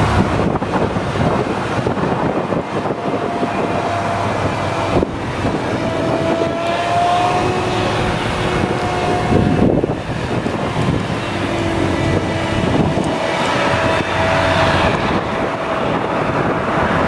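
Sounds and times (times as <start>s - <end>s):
forage harvester engine and chopper: 0.0s - 17.0s
high machine whine: 0.0s - 17.0s.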